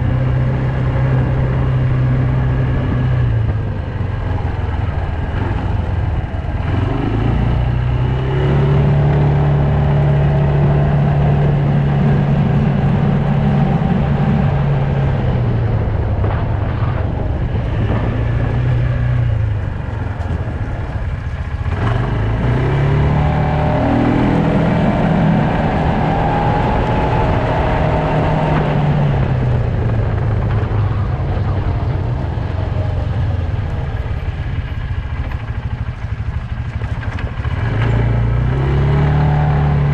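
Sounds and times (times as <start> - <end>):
quad bike engine: 0.0 - 39.9.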